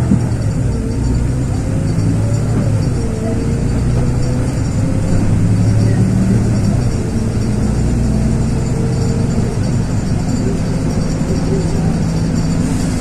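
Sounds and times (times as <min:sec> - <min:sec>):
bus diesel engine droning: 0:00.0 - 0:13.0
road rumble: 0:00.0 - 0:13.0.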